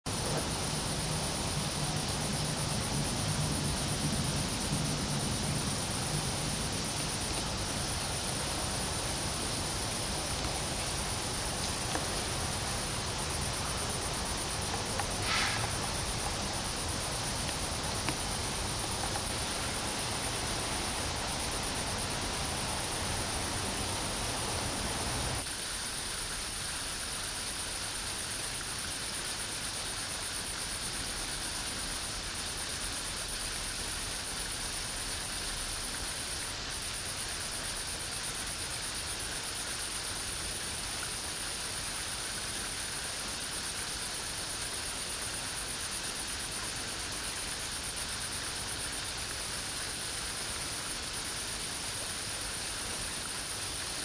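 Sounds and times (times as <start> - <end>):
high-pitched insect whine: 0.1 - 54.0.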